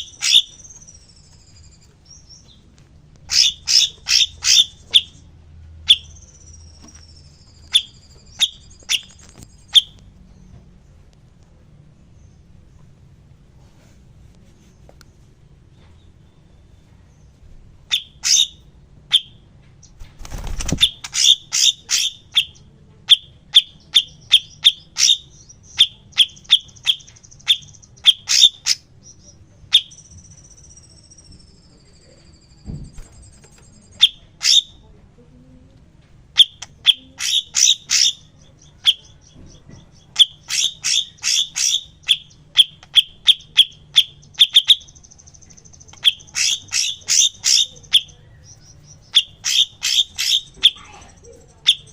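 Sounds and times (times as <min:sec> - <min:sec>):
songbird chip notes and trill: 0:00.0 - 0:10.6, 0:15.8 - 0:34.9, 0:36.3 - 0:51.9.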